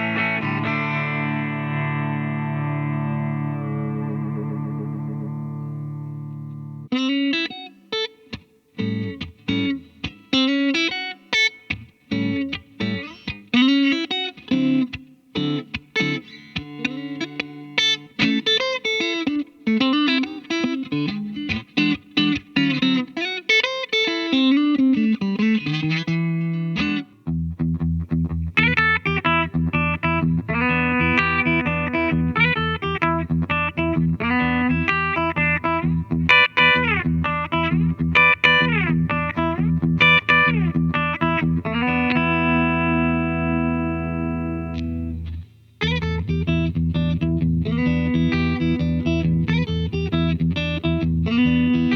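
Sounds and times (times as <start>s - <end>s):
electric guitar through an amplifier: 0.0s - 51.9s.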